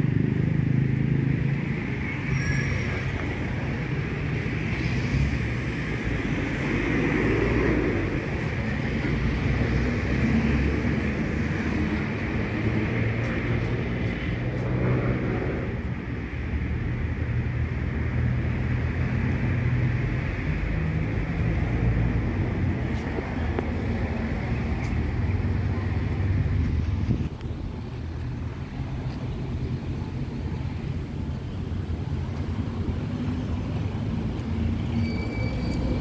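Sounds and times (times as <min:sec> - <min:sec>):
city road traffic: 0:00.0 - 0:36.0.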